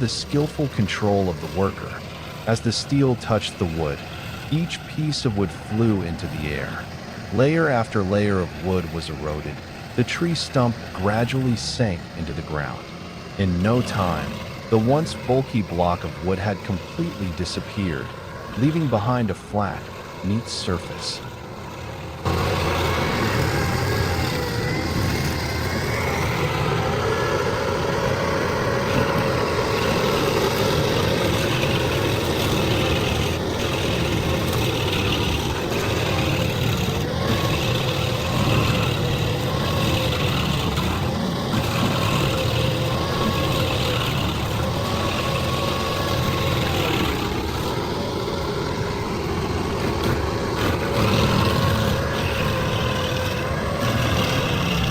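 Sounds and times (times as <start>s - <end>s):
heavy machine engine running: 0.0s - 54.9s.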